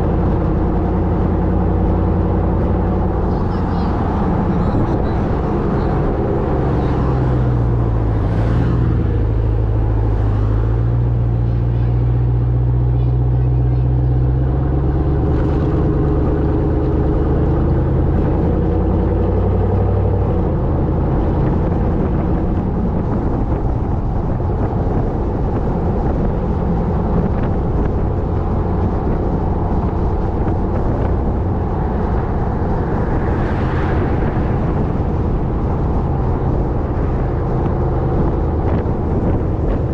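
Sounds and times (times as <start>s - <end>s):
road and wind noise: 0.0s - 39.9s
truck exhaust droning: 0.0s - 39.9s.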